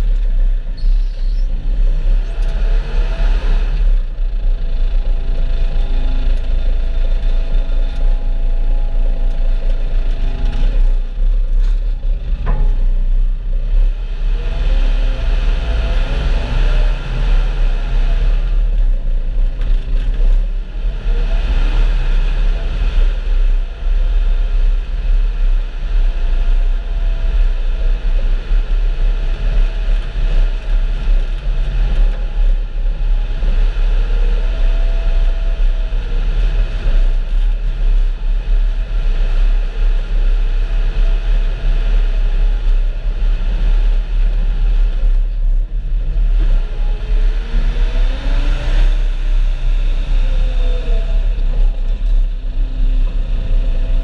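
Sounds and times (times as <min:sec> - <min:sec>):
tractor engine rumbling: 0:00.0 - 0:54.0.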